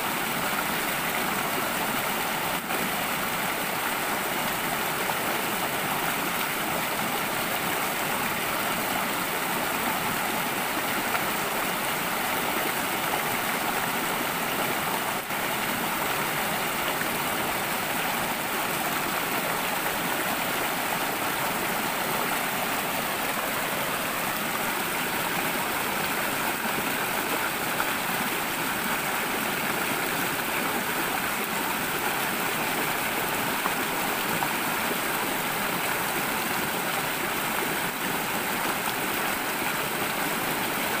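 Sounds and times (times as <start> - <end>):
stream running over rocks: 0.0 - 41.0.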